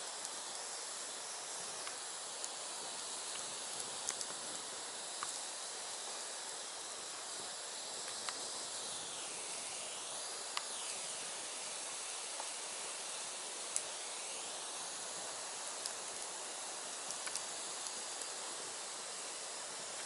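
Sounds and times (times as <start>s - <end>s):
firewood burning with crackles: 0.0s - 20.0s.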